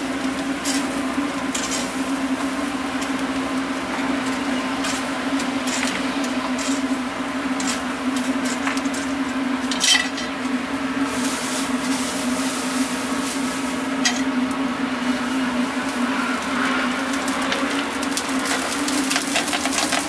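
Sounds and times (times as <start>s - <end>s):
burning straw crackling: 0.0s - 20.0s.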